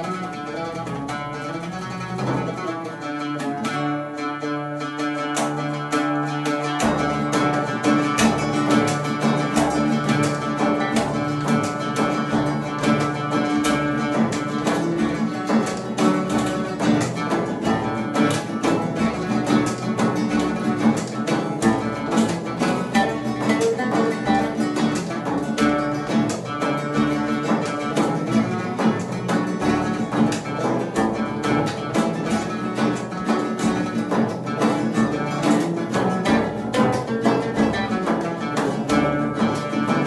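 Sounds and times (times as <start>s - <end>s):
guitar and oud plucking melody: 0.0s - 40.0s
frame drum beat: 5.0s - 40.0s.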